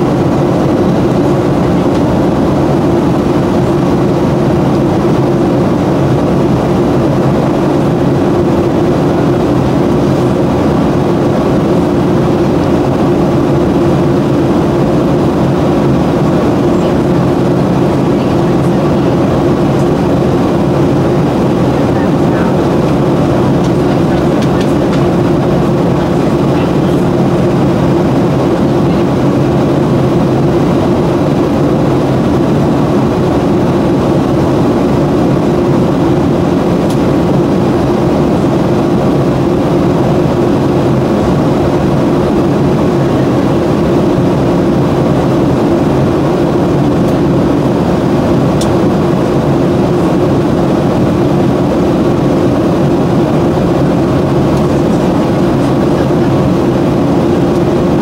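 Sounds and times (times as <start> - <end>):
airliner cabin engine rush: 0.0 - 58.0.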